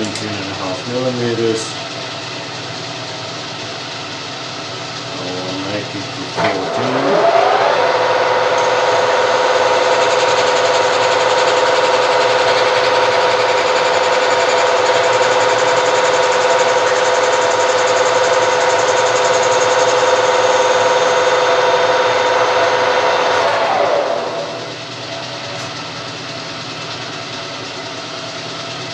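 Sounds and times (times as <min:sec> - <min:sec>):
lathe whining: 0:00.0 - 0:28.2.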